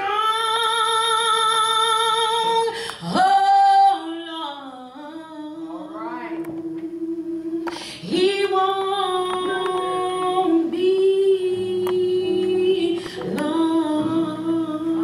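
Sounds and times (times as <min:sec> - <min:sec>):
woman singing gospel: 0:00.0 - 0:15.0.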